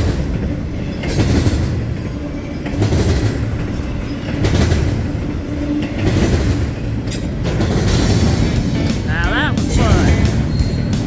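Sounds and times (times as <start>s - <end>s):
wheels clicking over rail joints: 0.0s - 9.1s
train wheels rumbling on rail: 0.0s - 11.0s.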